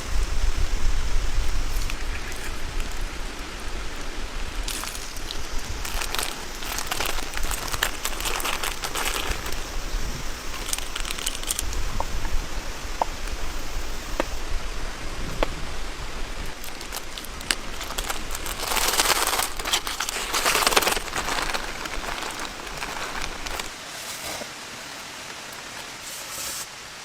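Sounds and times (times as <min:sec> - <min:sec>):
rain patter: 0:00.0 - 0:26.1
rustling and crinkling: 0:00.0 - 0:26.7.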